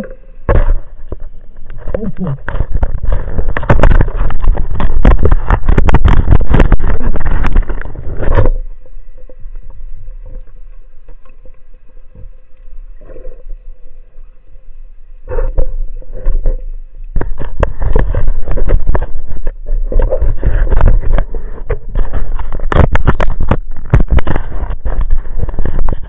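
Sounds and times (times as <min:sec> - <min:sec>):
faint steady hum: 0:00.0 - 0:26.0
underwater rushing and clicking: 0:00.0 - 0:26.0.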